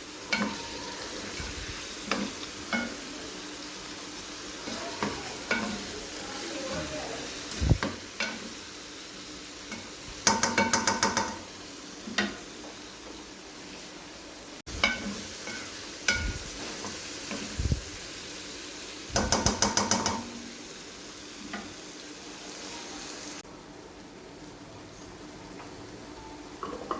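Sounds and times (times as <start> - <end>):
curry sizzling in a pan: 0.0 - 26.9.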